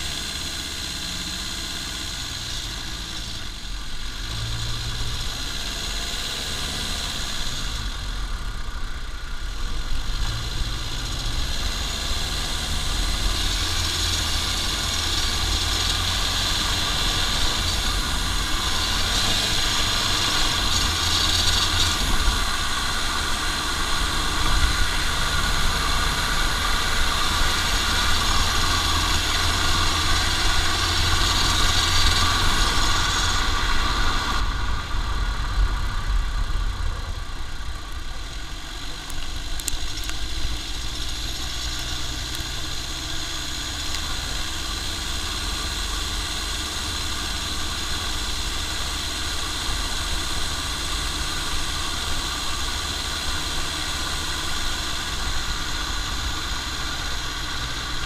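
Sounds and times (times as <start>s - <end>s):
diesel car engine running: 0.0s - 58.0s
tyre and road noise: 0.0s - 58.0s
hiss: 9.4s - 58.0s.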